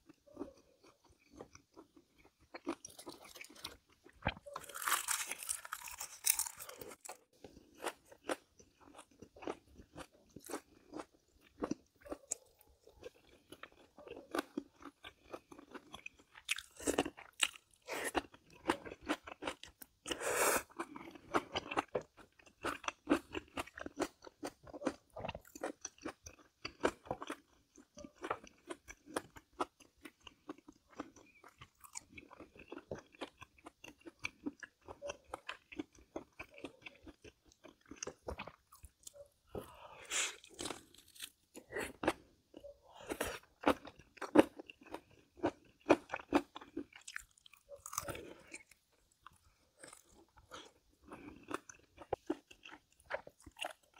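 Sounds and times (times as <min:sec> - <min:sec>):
person chewing crisp food: 0:00.0 - 0:53.9.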